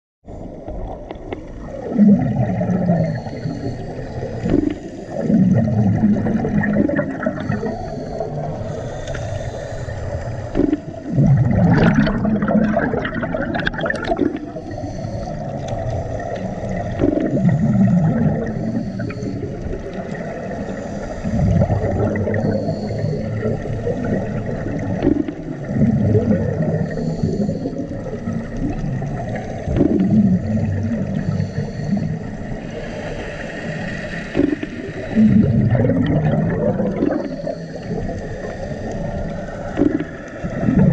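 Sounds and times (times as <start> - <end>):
bubbles gurgling: 0.4 - 9.0, 10.0 - 40.9
hissing breaths through regulator: 2.5 - 40.9.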